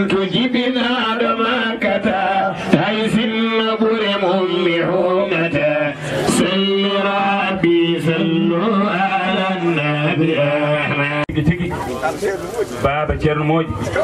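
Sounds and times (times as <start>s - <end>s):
men chanting in unison: 0.0s - 11.9s.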